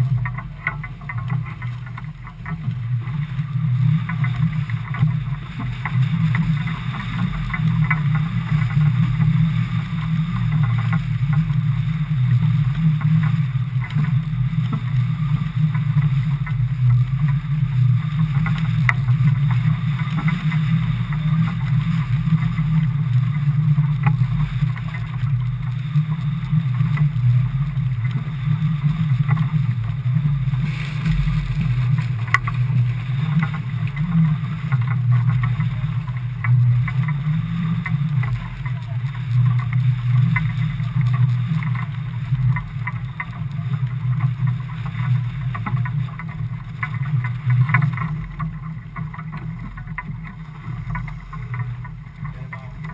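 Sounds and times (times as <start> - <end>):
strong wind rumble: 0.0 - 47.5
water against motorboat: 0.0 - 52.9.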